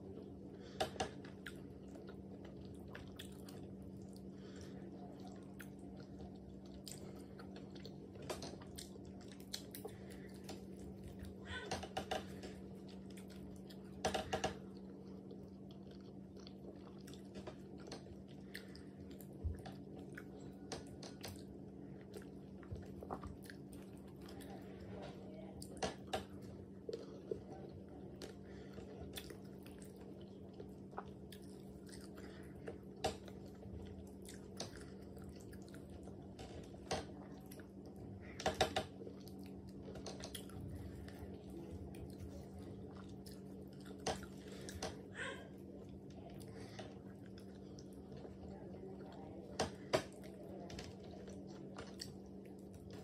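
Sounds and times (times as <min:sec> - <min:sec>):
person chewing with mouth smacks: 0:00.0 - 0:24.8, 0:25.6 - 0:53.0
low steady hum: 0:00.0 - 0:53.0.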